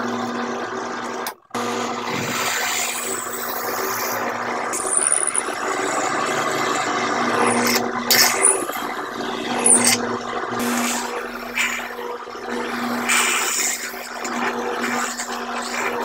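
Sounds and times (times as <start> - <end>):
drill press drilling into wood: 2.0 - 16.0.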